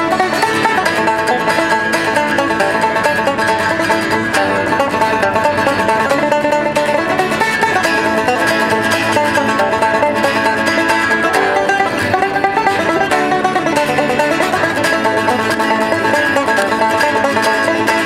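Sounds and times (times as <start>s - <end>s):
acoustic guitar: 0.0s - 18.0s
banjo picking: 0.0s - 18.0s.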